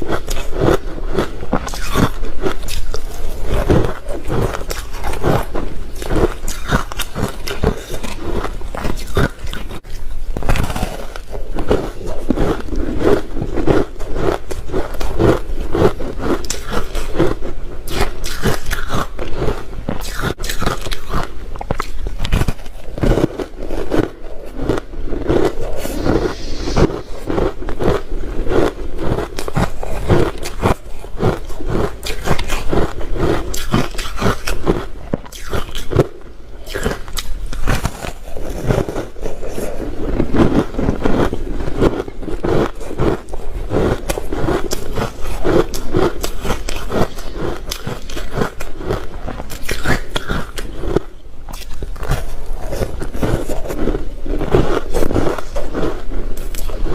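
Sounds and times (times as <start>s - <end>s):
crunching and chewing ice: 0.0s - 26.0s, 27.2s - 56.9s.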